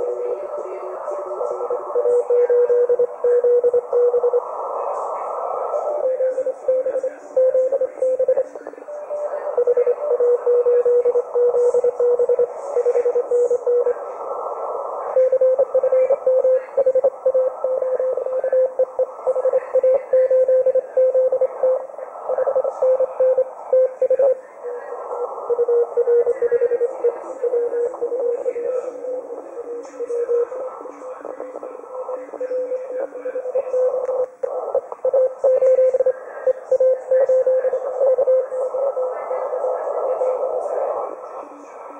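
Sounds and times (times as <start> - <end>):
fainter morse signals: 0.0 - 41.9
radio band hiss: 0.0 - 41.9.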